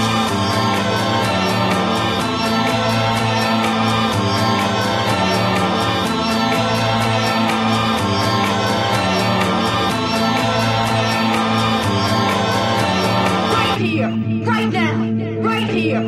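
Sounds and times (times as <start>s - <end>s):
electronic music with steady beat: 0.0s - 13.8s.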